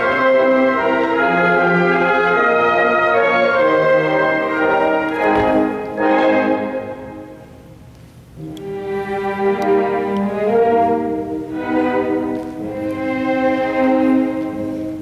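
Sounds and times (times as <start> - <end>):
orchestral music with strings: 0.0 - 15.0.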